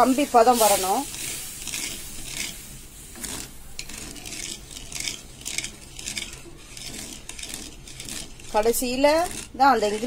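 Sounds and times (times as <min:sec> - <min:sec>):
wooden spatula scraping pan: 0:00.0 - 0:10.0.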